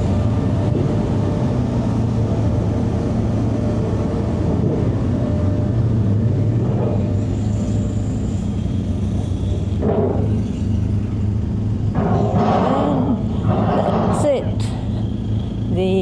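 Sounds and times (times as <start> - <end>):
motorcycle engine low drone: 0.0 - 16.0.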